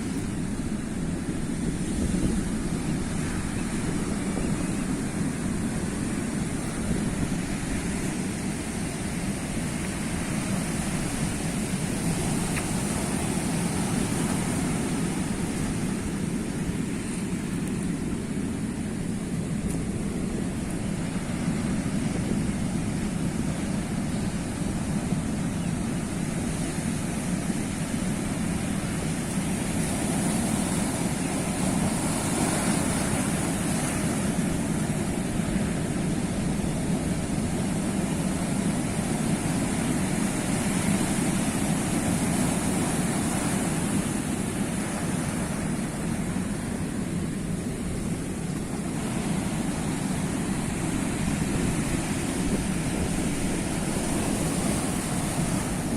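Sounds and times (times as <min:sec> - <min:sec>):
sea waves washing ashore: 0:00.0 - 0:55.9.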